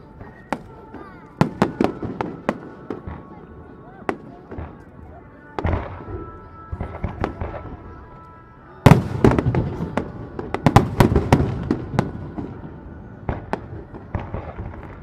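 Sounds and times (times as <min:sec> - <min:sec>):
fireworks bangs and crackles: 0:00.0 - 0:08.0, 0:08.8 - 0:15.0.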